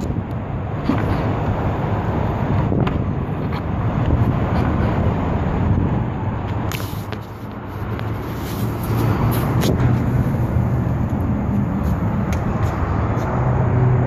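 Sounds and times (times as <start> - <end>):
traffic rumble: 0.0 - 14.0
wind on microphone: 0.0 - 14.0.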